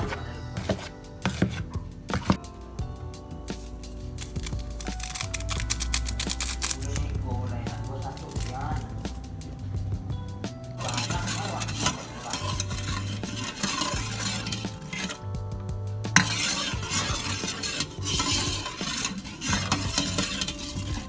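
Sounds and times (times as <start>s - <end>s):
utensil scraping in a pan: 0.0s - 2.4s, 3.5s - 9.7s, 10.7s - 21.0s
background music: 0.0s - 21.0s.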